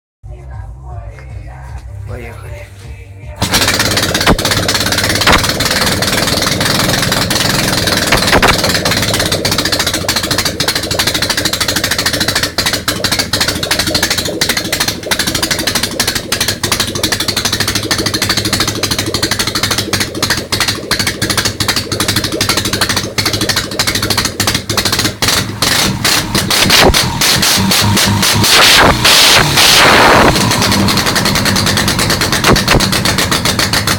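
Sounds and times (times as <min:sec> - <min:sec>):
motorcycle engine running unevenly: 0:00.3 - 0:33.9.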